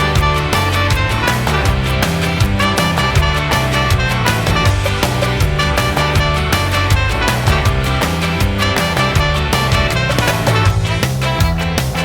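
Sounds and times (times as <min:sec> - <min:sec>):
upbeat music with bass and drums: 0:00.0 - 0:12.0.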